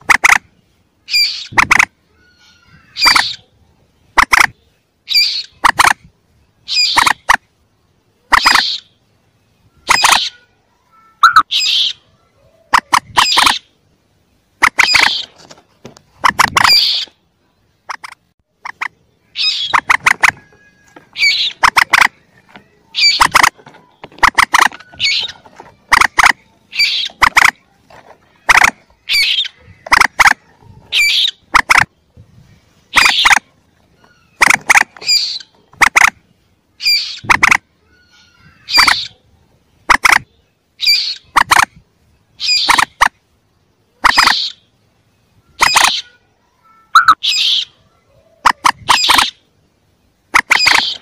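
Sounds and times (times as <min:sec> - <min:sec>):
young moorhen sharp calls: 0:00.0 - 0:07.6, 0:08.2 - 0:13.8, 0:14.5 - 0:15.5, 0:16.1 - 0:32.1, 0:32.7 - 0:43.2, 0:43.9 - 0:49.6, 0:50.2 - 0:51.0.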